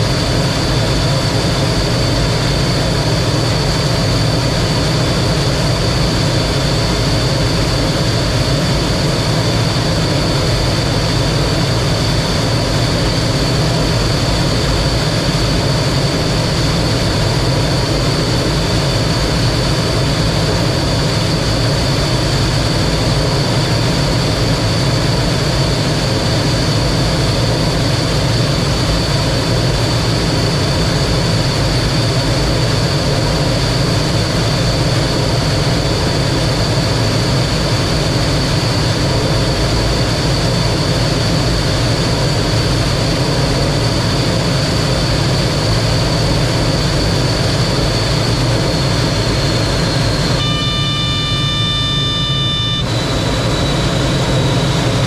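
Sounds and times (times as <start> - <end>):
jet engine with high whine: 0.0 - 55.0.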